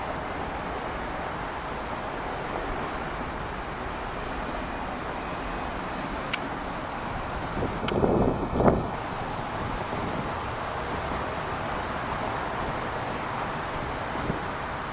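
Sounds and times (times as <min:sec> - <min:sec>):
jet engines rushing: 0:00.0 - 0:14.9
wind on microphone: 0:00.0 - 0:14.9.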